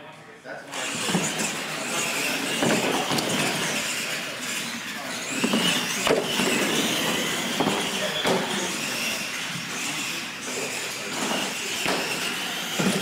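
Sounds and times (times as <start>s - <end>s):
electric motor whine: 0.7s - 13.0s.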